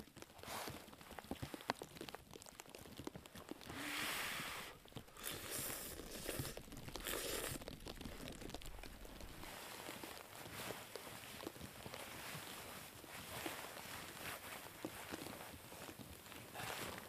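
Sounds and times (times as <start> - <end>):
rustling and crunching: 0.0 - 17.0.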